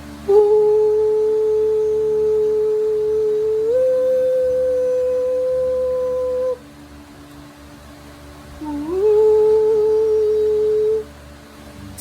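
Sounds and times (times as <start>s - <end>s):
long humming tones: 0.0s - 12.0s.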